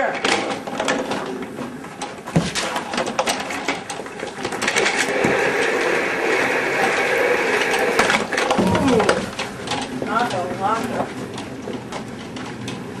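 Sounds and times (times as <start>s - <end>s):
office chair casters rolling: 0.2s - 13.0s.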